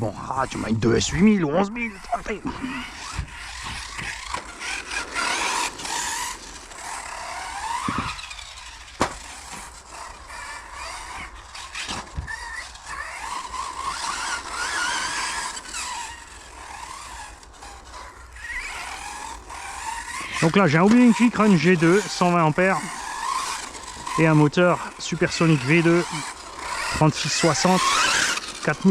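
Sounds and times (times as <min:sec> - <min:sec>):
rc car motor whining: 0:00.0 - 0:28.9.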